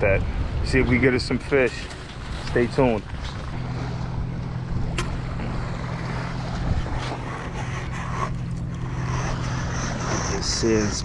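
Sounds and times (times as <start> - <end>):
motorboat engine droning: 0.0 - 11.0
steady rushing noise: 1.9 - 11.0.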